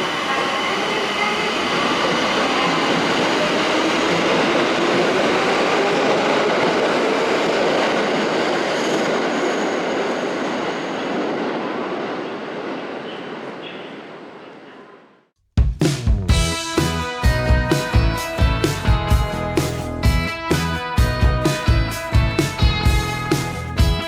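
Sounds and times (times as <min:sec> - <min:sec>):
subway train running: 0:00.0 - 0:15.3, 0:16.3 - 0:24.0.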